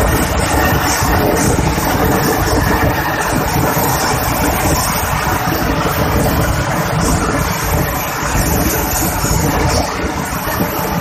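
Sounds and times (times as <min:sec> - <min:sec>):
air rushing past train: 0:00.0 - 0:11.0
train wheels rumbling on rails: 0:00.0 - 0:11.0.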